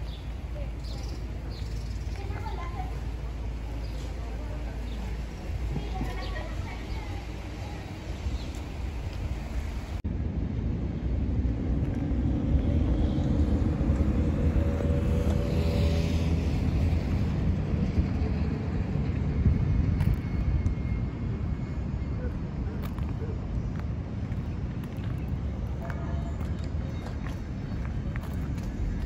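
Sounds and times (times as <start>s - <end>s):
steady low rumble: 0.0s - 29.0s
vehicle engine hum passing: 0.0s - 29.0s.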